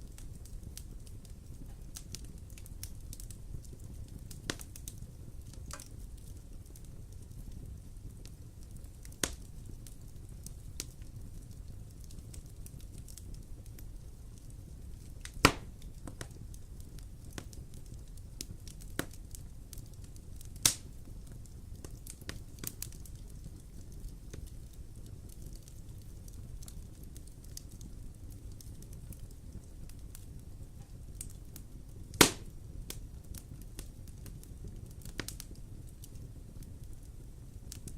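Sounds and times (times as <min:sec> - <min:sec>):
low rumble of flames: 0:00.0 - 0:37.9
sharp pops of fire: 0:00.0 - 0:37.9
wood fire crackling: 0:00.0 - 0:37.9.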